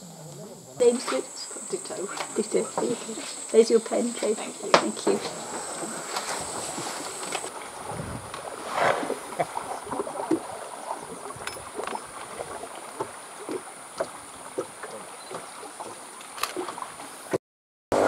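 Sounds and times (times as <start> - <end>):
water lapping against boat hull: 0.0 - 17.4.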